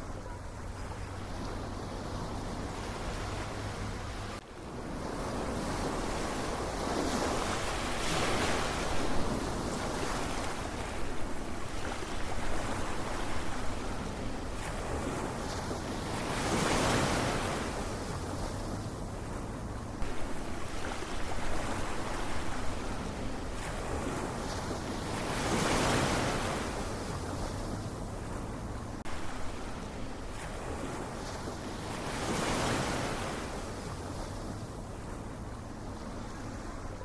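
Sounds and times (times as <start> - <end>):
ocean waves breaking: 0.0 - 37.0.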